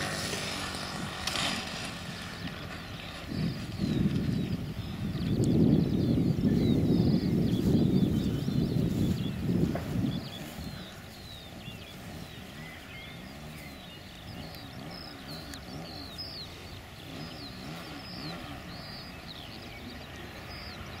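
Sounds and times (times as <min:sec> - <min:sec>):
birds chirping: 0:00.0 - 0:21.0
model plane engine idling: 0:00.0 - 0:21.0.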